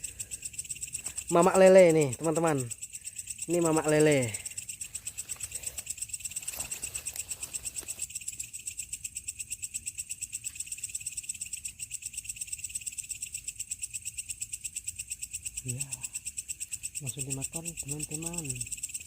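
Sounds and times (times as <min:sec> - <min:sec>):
night insects chirping: 0:00.0 - 0:19.0.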